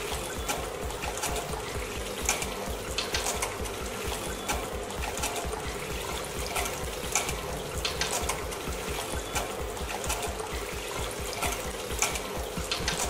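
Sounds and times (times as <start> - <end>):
fountain water splashing: 0.0 - 13.0
low pulsing hum: 0.0 - 13.0.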